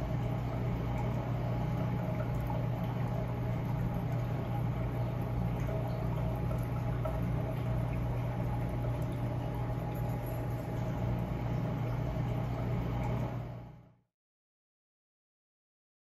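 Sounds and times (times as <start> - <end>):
low machinery hum: 0.0 - 14.1.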